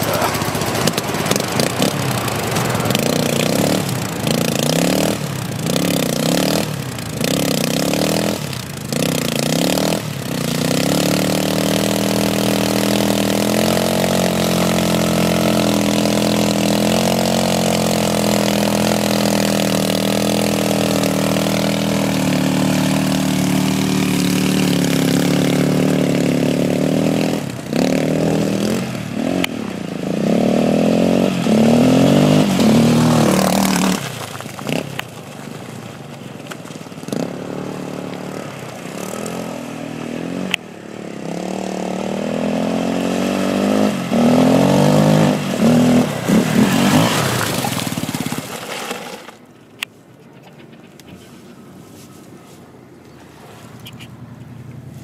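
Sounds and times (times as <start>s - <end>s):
quad bike engine revving: 0.0s - 35.1s, 37.0s - 49.2s.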